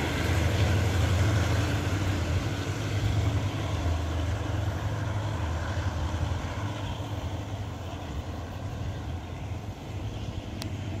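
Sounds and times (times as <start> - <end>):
diesel locomotive drone: 0.0 - 11.0.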